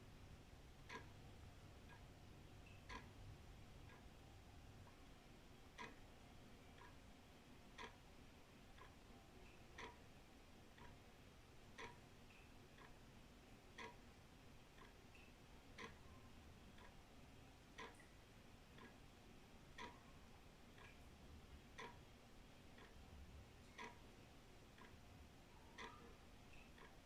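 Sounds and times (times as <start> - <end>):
wall clock ticking: 0.6 - 4.2, 4.8 - 7.0, 7.7 - 27.0.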